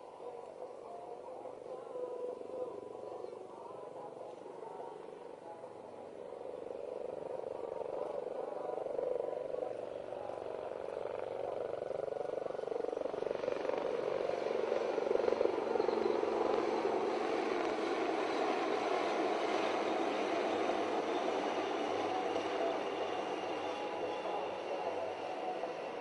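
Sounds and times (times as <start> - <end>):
helicopter rotors and engines: 0.0 - 26.0.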